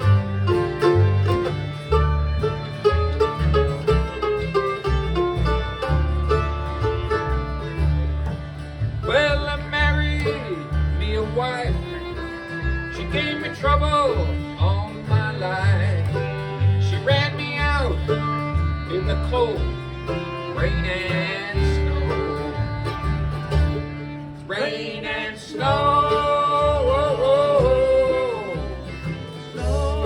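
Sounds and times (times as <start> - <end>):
banjo: 0.0 - 30.0
bluegrass band playing: 0.0 - 30.0
sliding fiddle-like lead line: 0.0 - 30.0.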